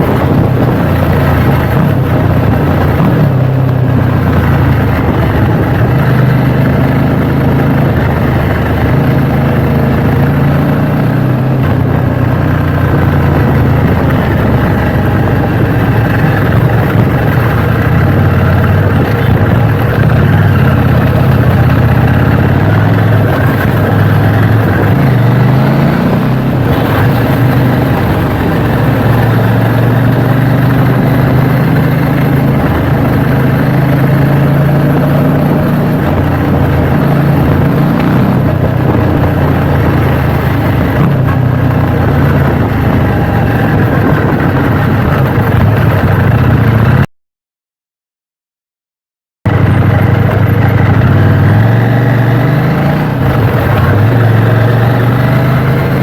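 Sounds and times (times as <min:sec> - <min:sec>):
motorcycle engine running loudly: 0:00.0 - 0:47.1, 0:49.4 - 0:56.0.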